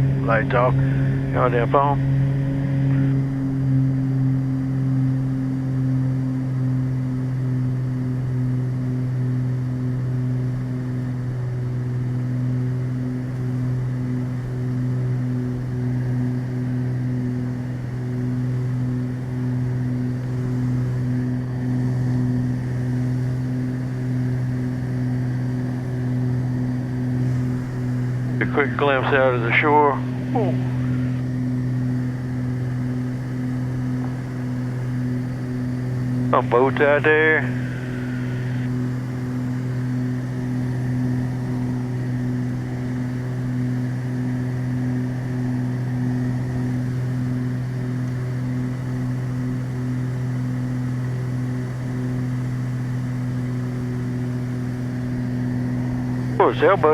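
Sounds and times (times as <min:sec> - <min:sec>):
propeller plane engines droning: 0:00.0 - 0:56.9.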